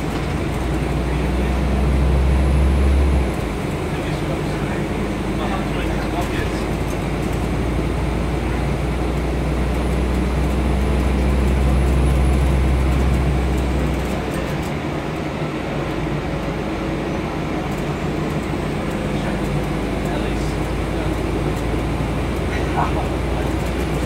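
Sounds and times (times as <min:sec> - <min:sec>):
bus diesel engine rumble: 0:00.0 - 0:24.0
road and body noise: 0:00.0 - 0:24.0.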